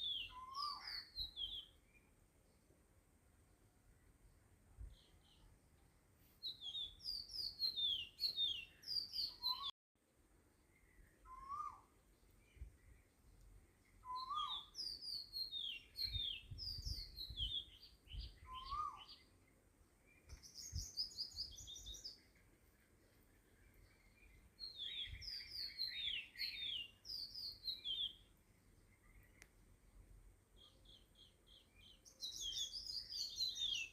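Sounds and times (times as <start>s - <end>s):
small birds chirping: 0.0s - 2.9s, 3.8s - 9.8s, 10.5s - 33.9s.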